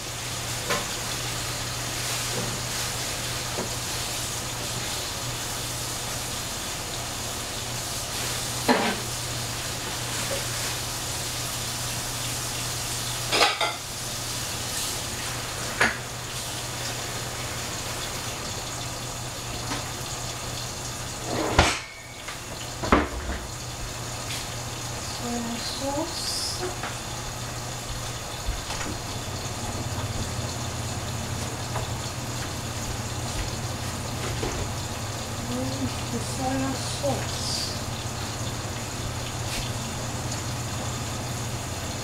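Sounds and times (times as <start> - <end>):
food sizzling in a pot: 0.0 - 42.0.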